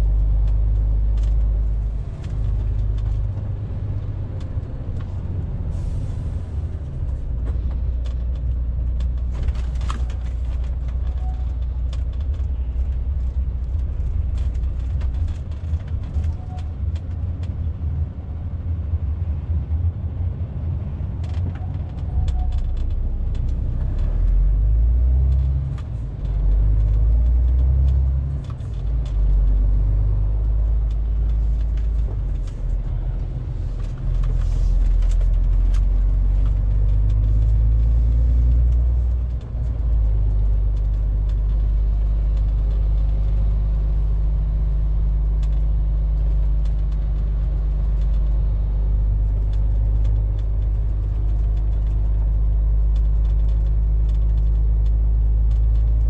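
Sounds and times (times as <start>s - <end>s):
truck diesel engine rumble: 0.0s - 56.0s.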